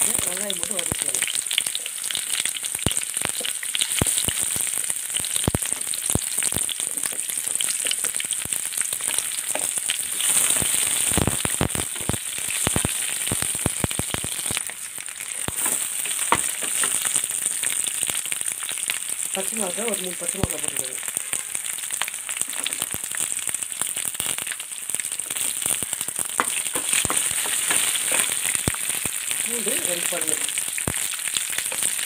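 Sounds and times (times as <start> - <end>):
food sizzling and crackling in oil: 0.0 - 32.0.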